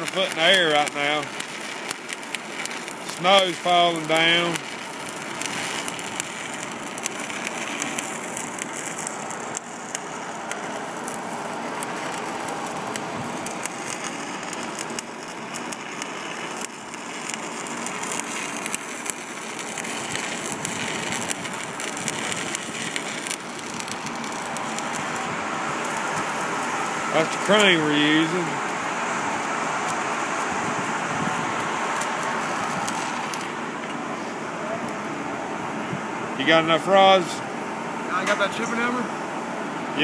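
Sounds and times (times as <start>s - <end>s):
welding arc crackling: 0.0s - 35.1s.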